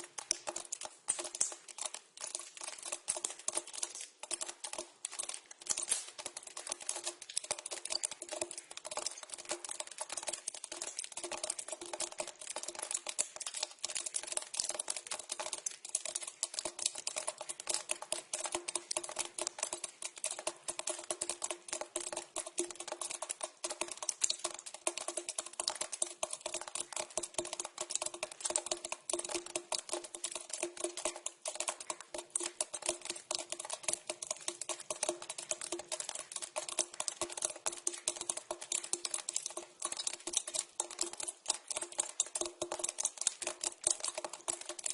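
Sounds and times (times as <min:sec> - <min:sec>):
water dripping into a pipe: 0:00.0 - 0:44.9.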